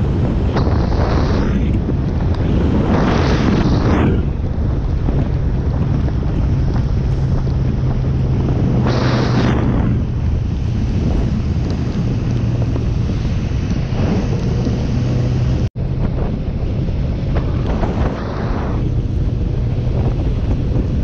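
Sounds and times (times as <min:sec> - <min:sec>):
motorcycle engine hum: 0:00.0 - 0:21.0
wind buffeting microphone: 0:00.0 - 0:21.0.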